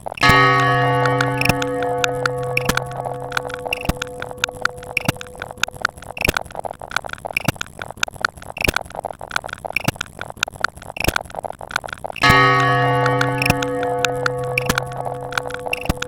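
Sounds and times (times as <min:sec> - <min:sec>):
clicks and pops: 0:00.0 - 0:16.0.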